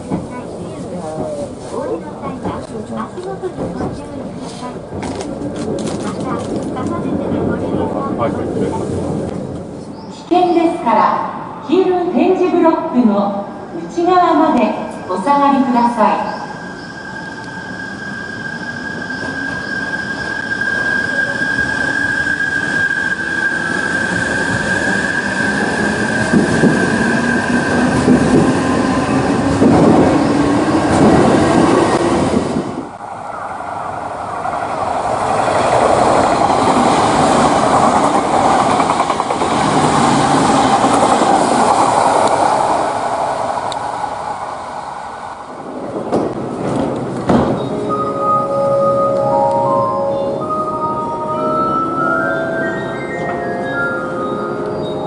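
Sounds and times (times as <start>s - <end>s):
running train noise: 0.0s - 55.0s.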